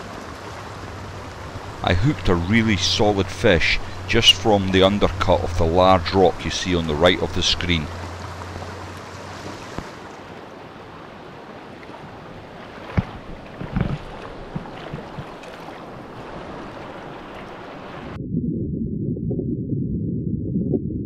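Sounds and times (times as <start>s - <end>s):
muffled underwater rumble: 0.0s - 9.9s, 12.9s - 21.0s
river rushing over stones: 0.0s - 18.2s.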